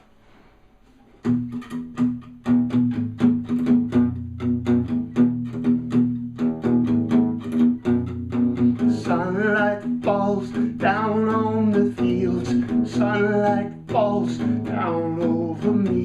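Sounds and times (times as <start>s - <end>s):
guitar strumming plucked chords: 1.1s - 16.0s.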